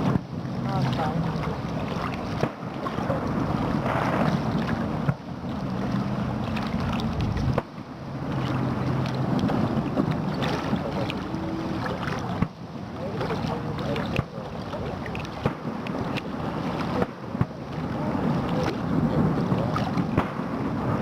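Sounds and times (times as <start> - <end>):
dense rumble: 0.0 - 21.0.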